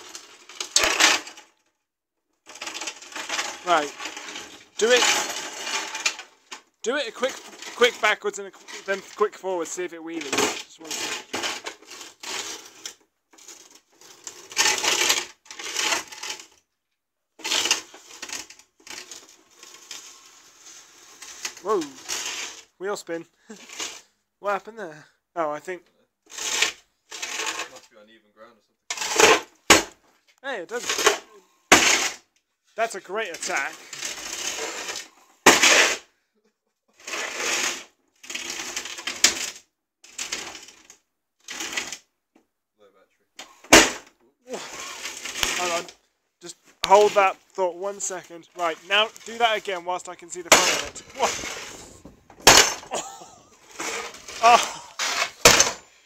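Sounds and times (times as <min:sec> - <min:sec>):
robot wheels scraping on concrete: 0:00.0 - 0:01.5, 0:02.5 - 0:16.6, 0:17.4 - 0:22.8, 0:23.5 - 0:24.1, 0:26.3 - 0:27.9, 0:28.9 - 0:36.1, 0:36.9 - 0:42.1, 0:43.4 - 0:56.0.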